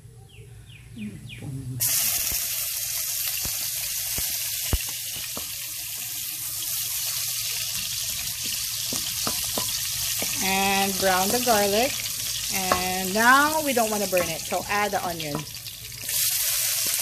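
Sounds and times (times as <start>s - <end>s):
garlic sizzling in hot oil: 1.8s - 17.0s.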